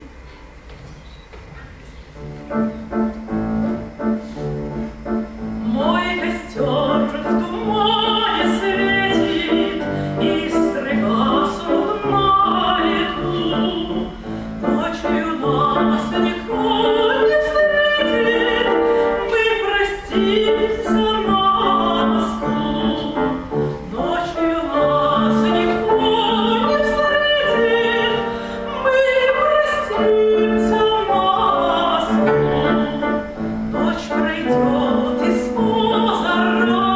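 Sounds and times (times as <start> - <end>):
piano: 0.0 - 36.9
woman singing with vibrato: 5.6 - 36.9.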